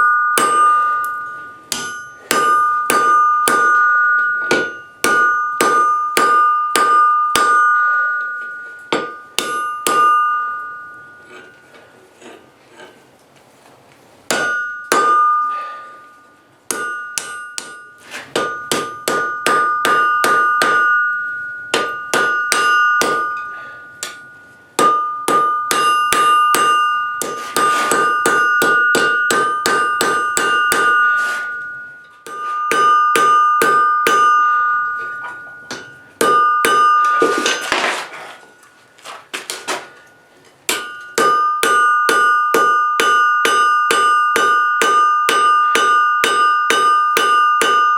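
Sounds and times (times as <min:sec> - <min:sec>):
hammer striking steel on anvil: 0:00.0 - 0:11.8, 0:14.3 - 0:38.0, 0:39.4 - 0:47.9.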